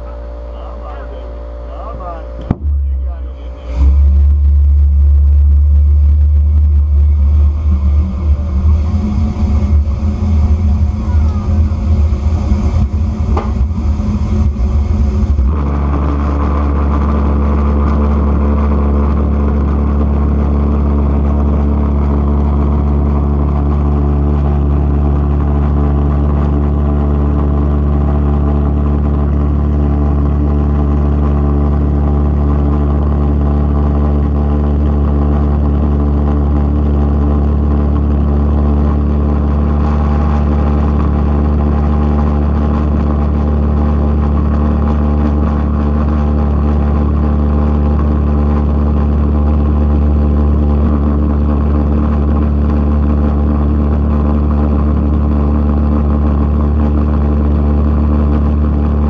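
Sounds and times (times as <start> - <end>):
pulsejet engine droning: 0.0 - 59.0.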